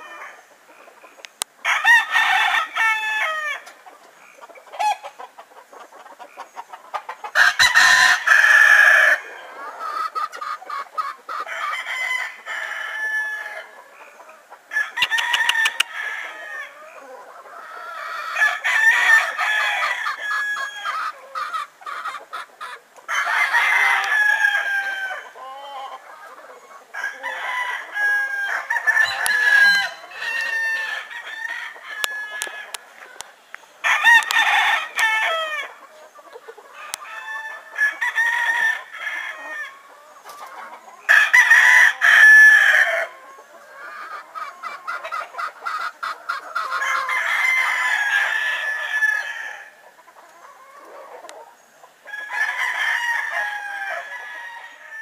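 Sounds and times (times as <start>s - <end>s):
roosters crowing: 0.0s - 0.6s, 1.6s - 3.8s, 7.0s - 55.0s
hens clucking: 0.0s - 55.0s.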